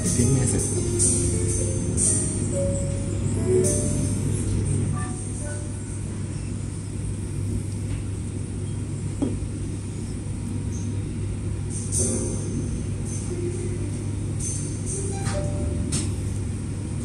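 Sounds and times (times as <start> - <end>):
restaurant room noise hum: 0.0 - 17.0.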